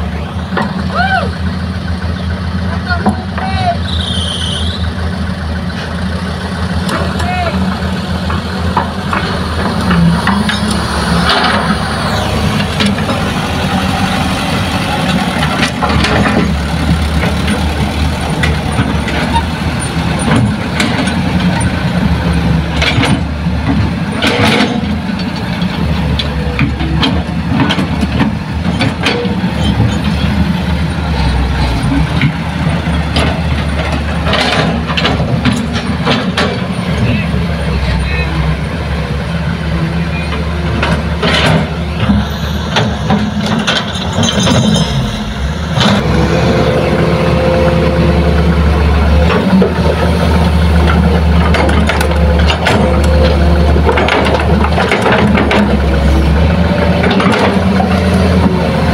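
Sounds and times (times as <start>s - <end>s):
excavator and truck diesel engines: 0.0s - 58.9s.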